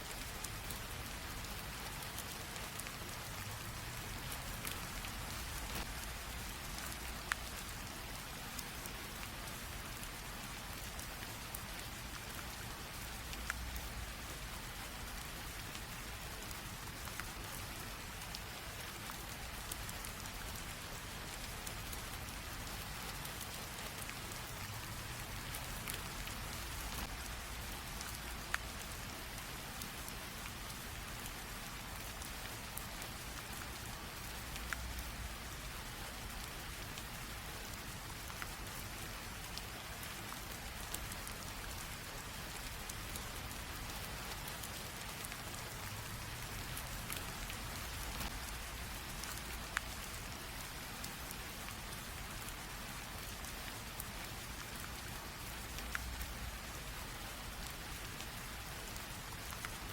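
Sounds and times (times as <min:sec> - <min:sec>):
light rain hiss: 0:00.0 - 0:59.9
raindrops ticking: 0:00.0 - 0:59.9.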